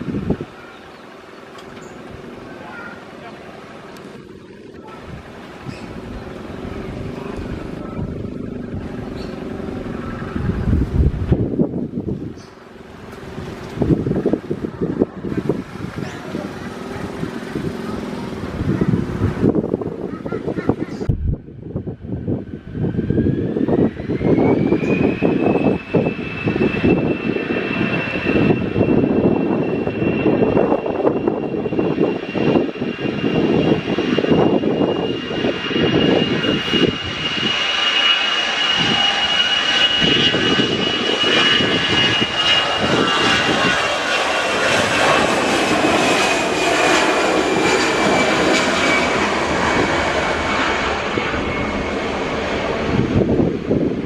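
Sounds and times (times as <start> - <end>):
wind rumbling on microphone: 0.0 - 0.7, 3.8 - 54.0
jet engines whining and roaring: 0.0 - 54.0.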